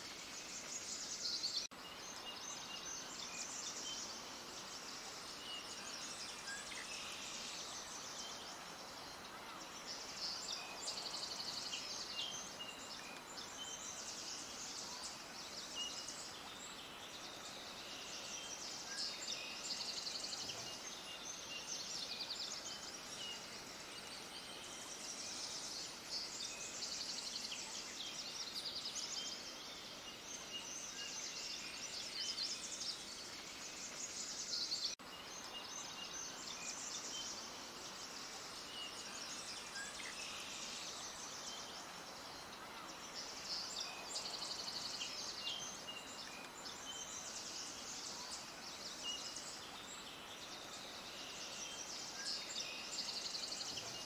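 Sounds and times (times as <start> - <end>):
background hiss: 0.0 - 54.0
small birds chirping: 0.0 - 54.0.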